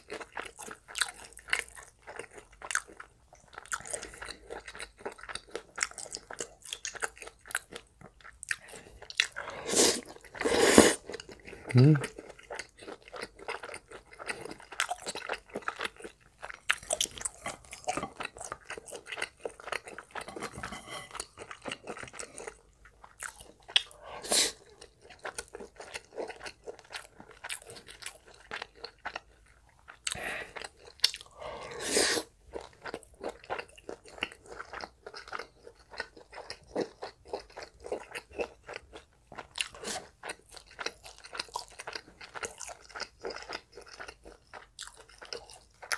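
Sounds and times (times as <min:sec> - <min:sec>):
person chewing and crunching food: 0:00.0 - 0:45.9.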